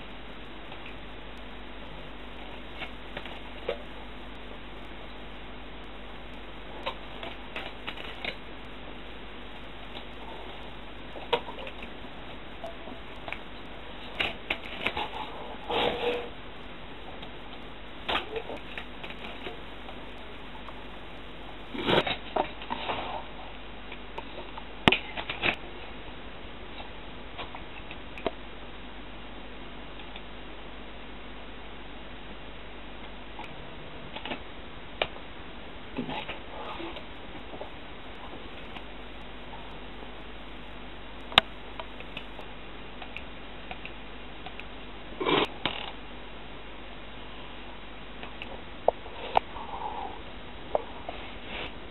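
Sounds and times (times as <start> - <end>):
steady low hiss: 0.0 - 51.9.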